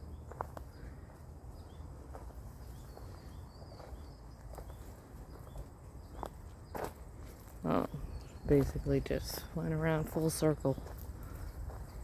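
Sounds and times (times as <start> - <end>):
footsteps on a path: 0.0 - 12.0.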